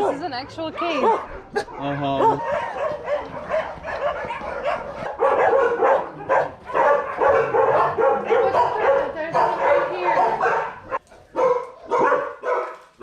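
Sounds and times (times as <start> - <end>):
many dogs barking: 0.0 - 13.0.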